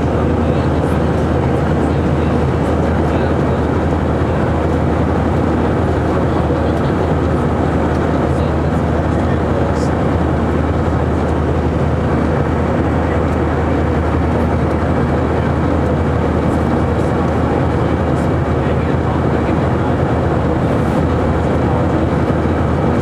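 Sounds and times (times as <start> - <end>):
engine hum in aircraft cabin: 0.0 - 23.0.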